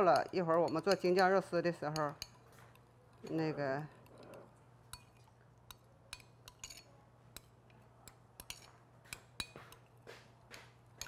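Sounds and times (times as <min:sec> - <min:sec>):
spoon clinking against bowl: 0:00.0 - 0:10.0
metal spoon stirring sauce: 0:00.0 - 0:11.0.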